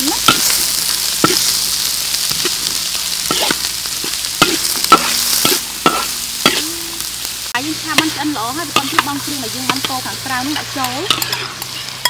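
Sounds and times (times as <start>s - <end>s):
vegetables sizzling in oil: 0.0s - 12.0s
metal spatula scraping a wok: 0.2s - 7.1s, 7.9s - 12.0s.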